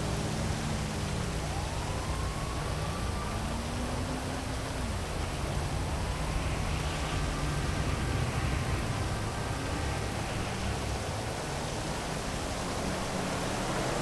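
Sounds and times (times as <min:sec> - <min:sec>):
city traffic hum: 0:00.0 - 0:14.0
heavy rain: 0:00.0 - 0:14.0
passing vehicle engines: 0:00.0 - 0:14.0.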